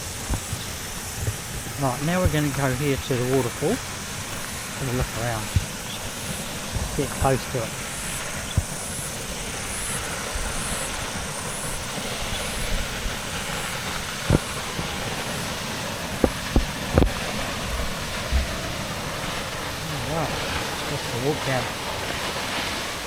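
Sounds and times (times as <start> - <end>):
cicadas chirping: 0.0 - 23.0
waterfall rushing: 0.0 - 23.0.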